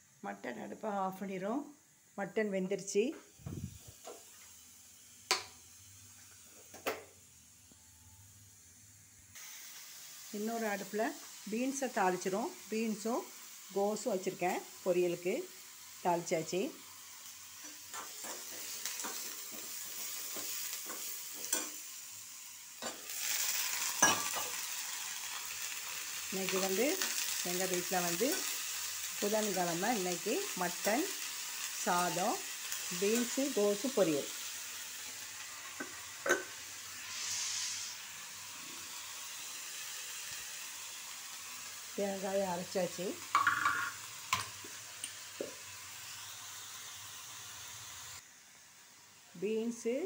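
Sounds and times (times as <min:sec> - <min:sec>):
vegetables frying sizzle: 0:00.0 - 0:50.0.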